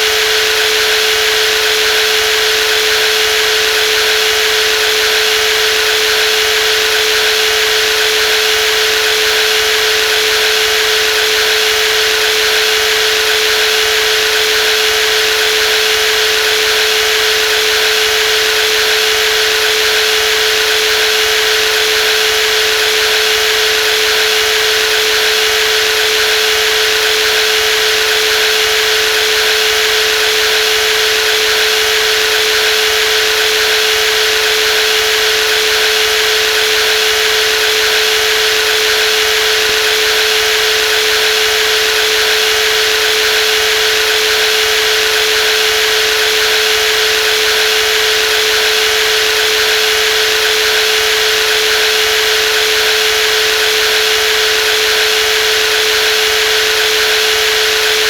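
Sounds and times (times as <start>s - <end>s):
jigsaw running: 0.0s - 58.0s.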